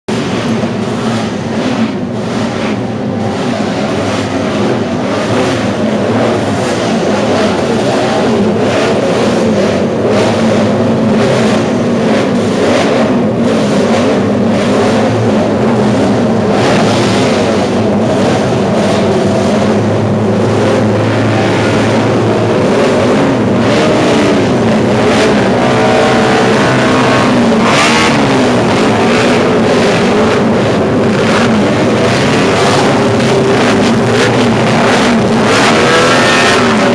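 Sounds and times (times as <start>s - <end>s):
racing motorcycle engines revving: 0.0s - 36.9s.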